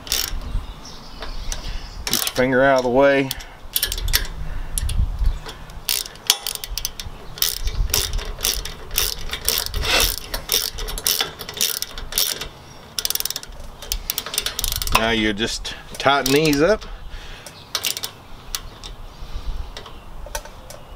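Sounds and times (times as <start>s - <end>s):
ratchet clicking: 0.0s - 0.5s, 1.2s - 15.2s, 16.0s - 19.0s.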